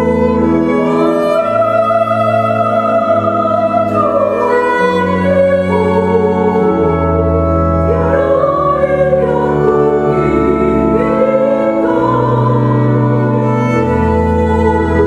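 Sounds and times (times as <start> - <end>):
mixed choir singing a hymn: 0.0 - 15.0
organ holding low notes: 0.0 - 15.0.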